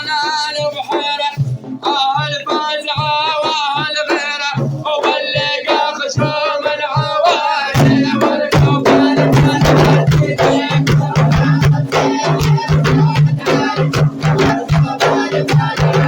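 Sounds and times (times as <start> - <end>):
hand drum beats: 0.0 - 16.0
instrumental accompaniment: 0.0 - 16.0
man singing: 0.0 - 16.0.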